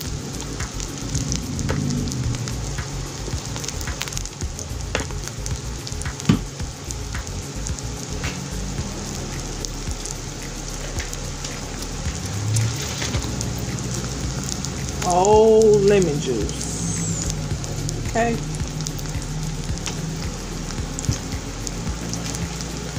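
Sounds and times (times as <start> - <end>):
food sizzling in oil: 0.0 - 22.9
oil popping and crackling: 0.0 - 22.9.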